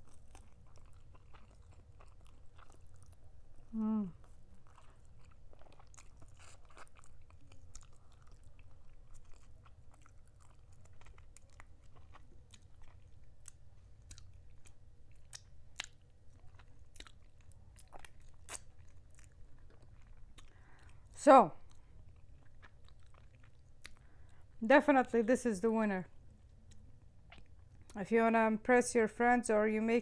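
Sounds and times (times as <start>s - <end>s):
chewing and biting chicken: 0.0s - 24.4s, 26.2s - 28.0s.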